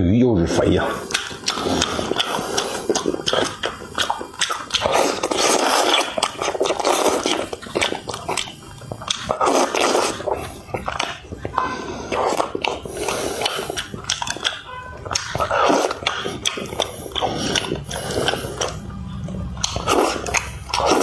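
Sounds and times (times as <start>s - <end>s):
person slurping and chewing: 0.5s - 21.0s
wet smacking clicks: 1.1s - 9.5s, 12.2s - 21.0s.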